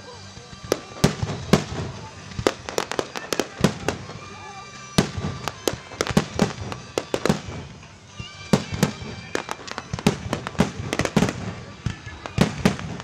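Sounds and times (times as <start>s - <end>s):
fireworks bangs and cracks: 0.2s - 13.0s.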